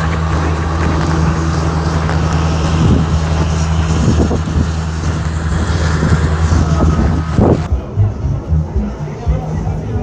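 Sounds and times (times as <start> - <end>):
outdoor street noise: 0.0 - 10.0
vehicle engine humming: 0.0 - 10.0.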